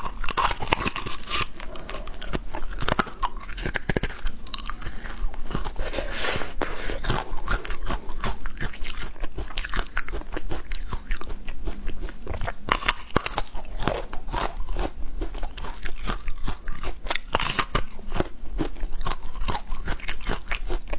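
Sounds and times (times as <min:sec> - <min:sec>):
crunchy snack chewing: 0:00.0 - 0:20.9.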